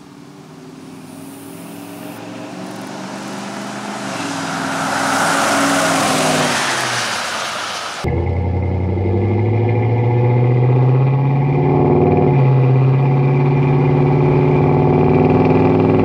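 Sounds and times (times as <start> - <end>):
truck engine passing by: 0.2 - 14.4.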